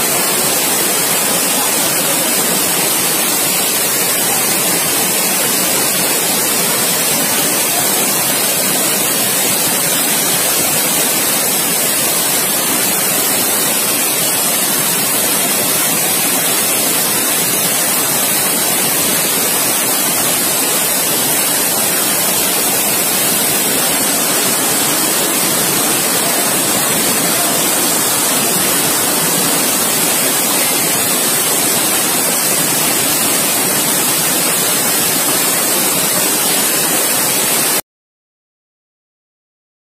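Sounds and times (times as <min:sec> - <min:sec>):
floodwater rushing: 0:00.0 - 0:37.8.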